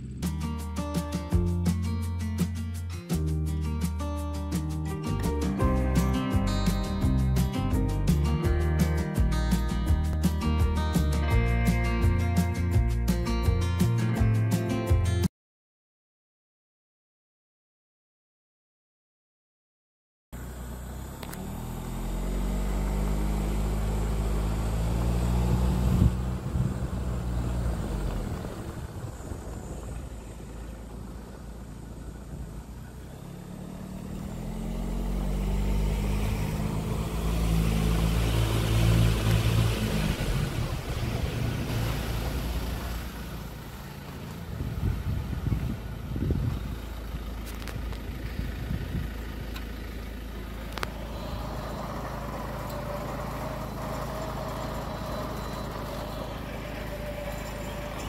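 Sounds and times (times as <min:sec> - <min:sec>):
car engine running: 0:00.0 - 0:13.9, 0:20.4 - 0:58.0
tyres rumbling on dirt road: 0:00.0 - 0:15.2, 0:20.4 - 0:58.0.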